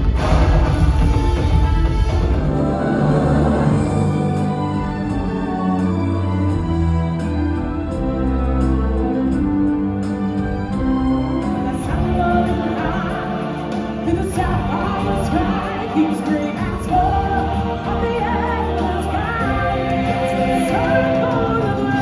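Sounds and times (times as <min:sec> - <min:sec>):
backing track music: 0:00.0 - 0:22.0
singers performing: 0:00.0 - 0:22.0.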